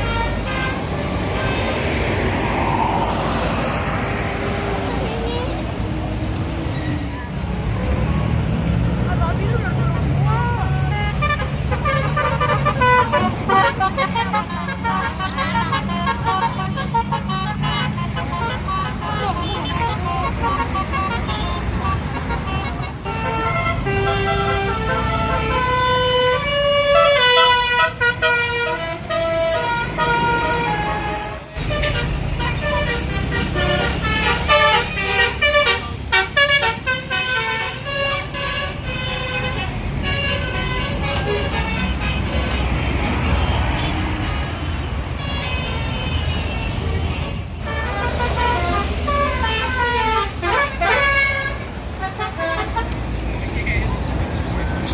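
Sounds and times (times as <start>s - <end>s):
musical bus horn melody: 0.0s - 1.8s, 10.3s - 53.8s
traffic rumbling: 0.0s - 54.9s.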